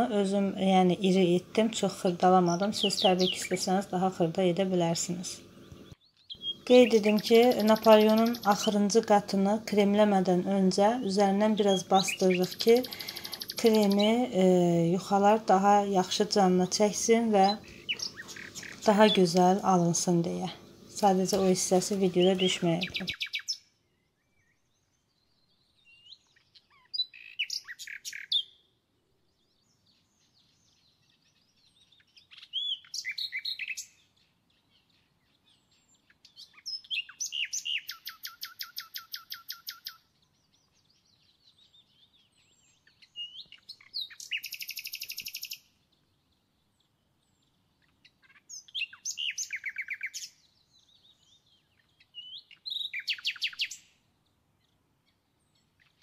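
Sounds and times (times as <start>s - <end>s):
songbird trilling: 0.0s - 4.3s, 4.9s - 23.6s, 25.6s - 28.7s, 30.8s - 34.1s, 34.7s - 45.7s, 47.8s - 53.9s.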